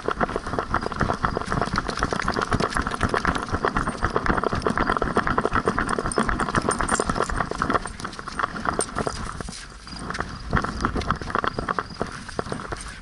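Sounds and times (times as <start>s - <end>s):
camera knocking and rattling: 0.0s - 13.0s
dog paws on sandy ground: 0.0s - 13.0s.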